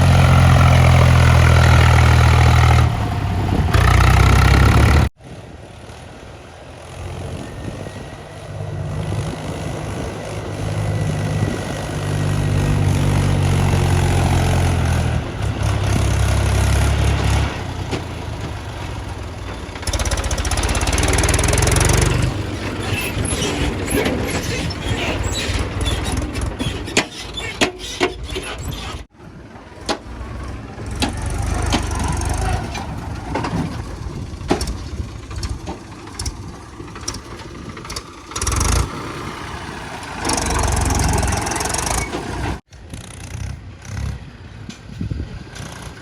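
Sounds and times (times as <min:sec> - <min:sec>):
heavy diesel machinery engine: 0:00.0 - 0:46.0.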